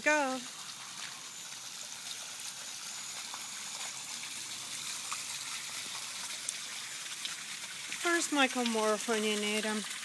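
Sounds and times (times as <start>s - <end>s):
water rushing and splashing: 0.0s - 10.0s.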